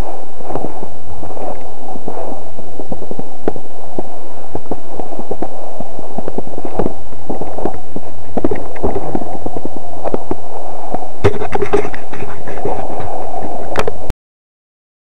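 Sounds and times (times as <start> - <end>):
microphone handling noise: 0.0 - 14.1
wind on microphone: 0.0 - 14.1.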